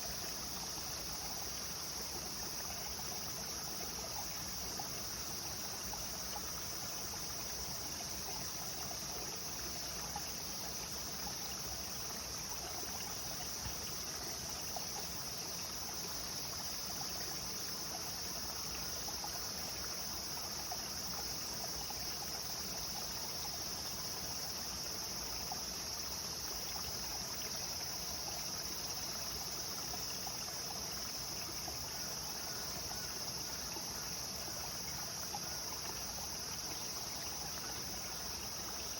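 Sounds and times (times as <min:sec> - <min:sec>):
river flowing and rippling: 0:00.0 - 0:38.9.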